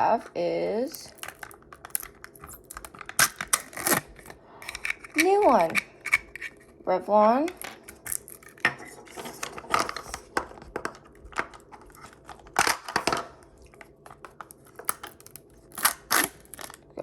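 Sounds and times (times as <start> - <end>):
plastic packaging crinkling: 0.9 - 6.6, 7.7 - 17.0.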